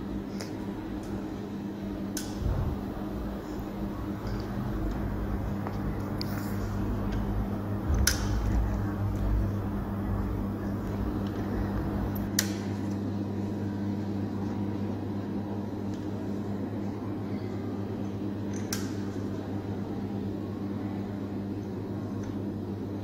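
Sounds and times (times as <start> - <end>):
low electrical hum of equipment: 0.0 - 23.0.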